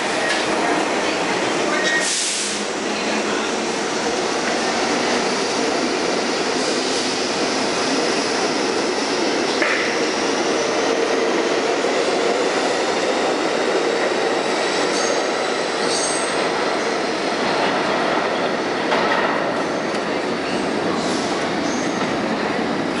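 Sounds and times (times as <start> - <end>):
subway train wheels rumbling: 0.0 - 23.0.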